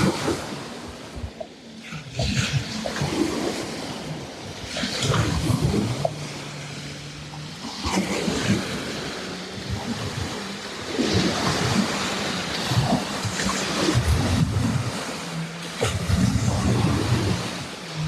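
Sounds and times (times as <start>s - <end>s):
small waves lapping at shore: 0.0s - 18.0s
wind buffeting microphone: 0.0s - 18.0s.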